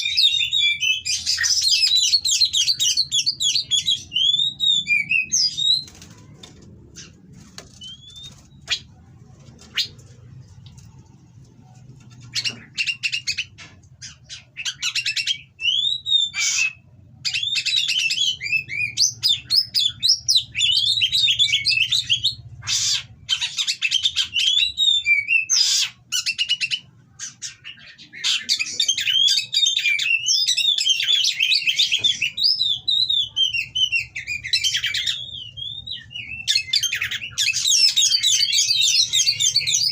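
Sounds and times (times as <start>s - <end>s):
magpie-robin singing: 0.0s - 10.2s, 12.1s - 39.9s.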